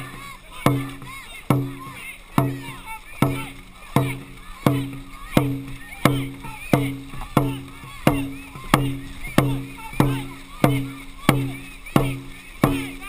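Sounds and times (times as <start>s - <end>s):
drum beaten with booming hits: 0.0s - 13.0s.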